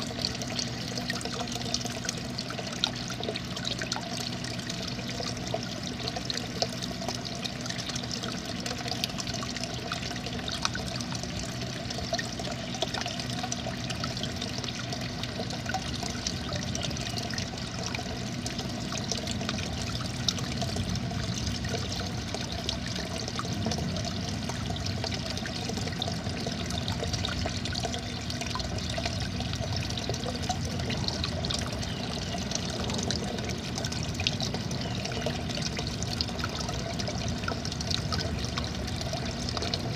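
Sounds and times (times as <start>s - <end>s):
pond waterfall splashing: 0.0s - 39.9s.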